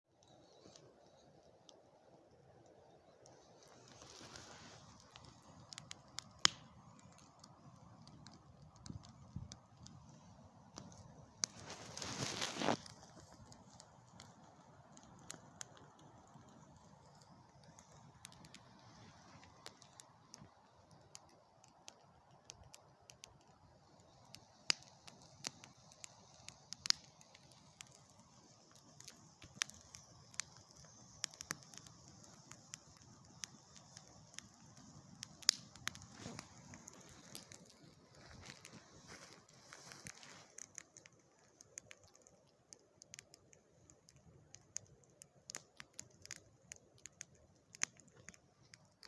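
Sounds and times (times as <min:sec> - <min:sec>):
campfire crackling and popping: 0:00.1 - 0:49.0.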